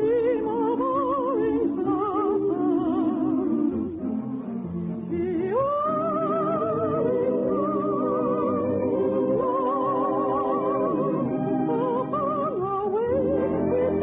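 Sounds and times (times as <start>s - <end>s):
orchestra with vibrato melody: 0.0s - 14.0s.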